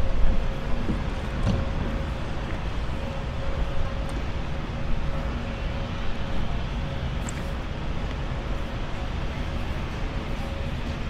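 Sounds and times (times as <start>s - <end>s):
faint continuous hum: 0.0s - 11.0s
low rumble of distant traffic: 0.0s - 11.0s.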